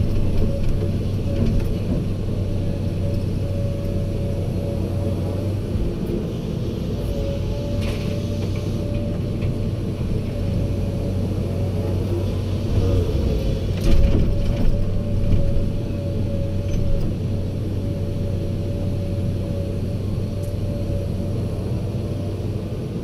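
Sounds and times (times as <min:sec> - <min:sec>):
constant whine: 0:00.0 - 0:23.0
diesel engine running: 0:00.0 - 0:23.0.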